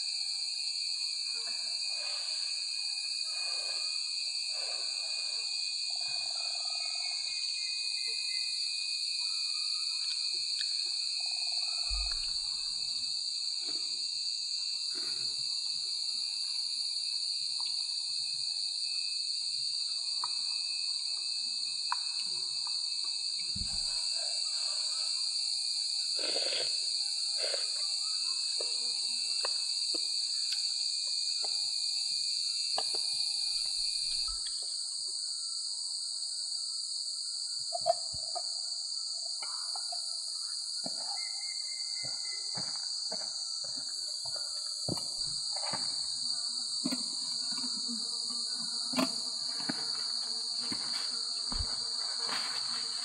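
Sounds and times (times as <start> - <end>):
jungle insects droning: 0.0 - 53.0.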